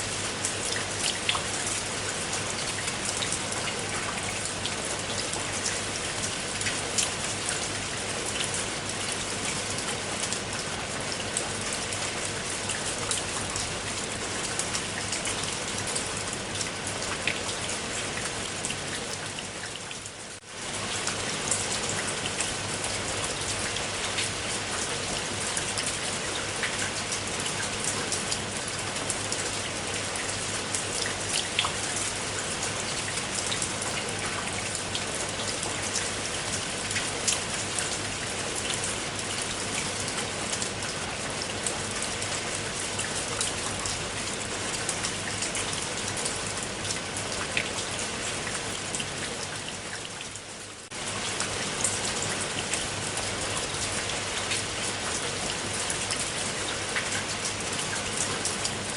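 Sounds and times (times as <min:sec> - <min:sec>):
steady rain with ticking drops: 0:00.0 - 0:58.9.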